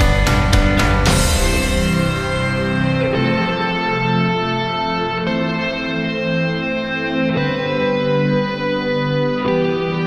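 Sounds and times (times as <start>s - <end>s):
background music with sustained chords: 0.0s - 10.0s.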